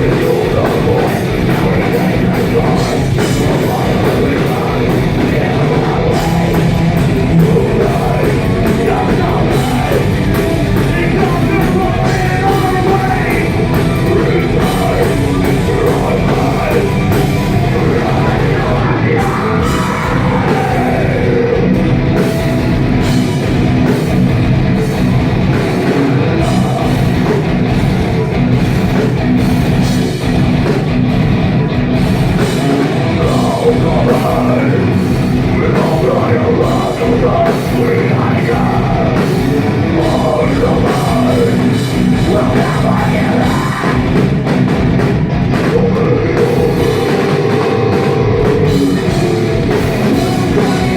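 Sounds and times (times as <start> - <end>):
person singing: 0.0 - 21.8, 25.8 - 28.3, 32.4 - 44.6, 45.5 - 50.9
distorted heavy metal band: 0.0 - 50.9.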